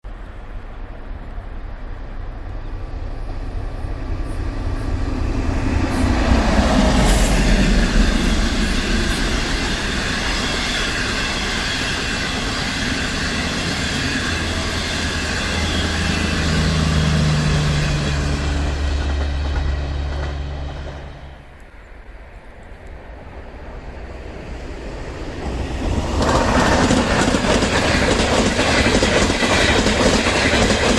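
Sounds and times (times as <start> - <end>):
train rumbling past: 0.0 - 30.9.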